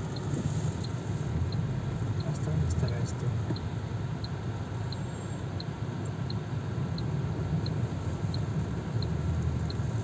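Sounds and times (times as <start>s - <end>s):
car rumble from inside: 0.0s - 10.0s
wind: 0.0s - 10.0s.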